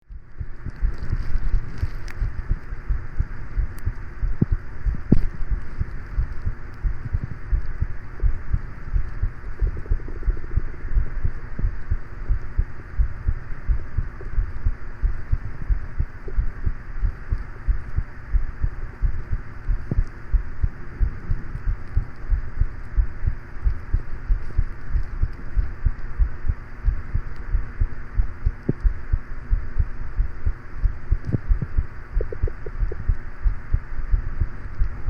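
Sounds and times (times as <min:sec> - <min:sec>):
fan humming: 0:00.0 - 0:35.0
heartbeat thumps: 0:00.0 - 0:35.0.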